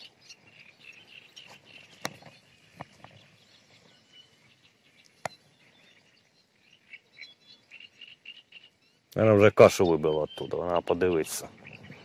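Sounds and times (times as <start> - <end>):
faint birds chirping: 0.0 - 12.0
light outdoor ambience: 0.0 - 12.0.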